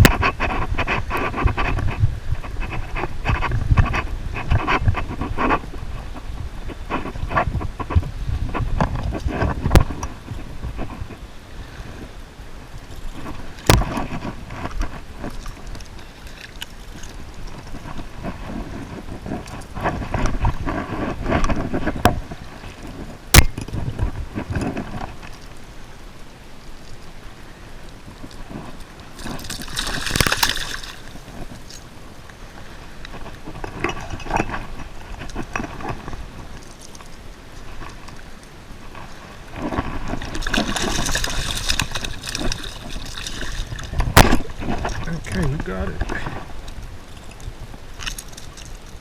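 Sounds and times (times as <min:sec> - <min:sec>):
water splashing and sloshing: 0:00.0 - 0:49.0.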